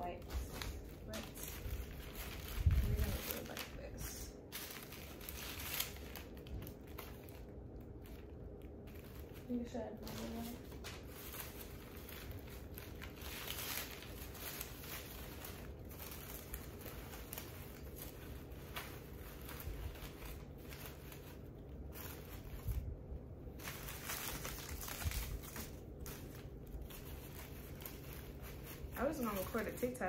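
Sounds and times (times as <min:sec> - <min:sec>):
wrapping material crinkling: 0:00.0 - 0:30.0.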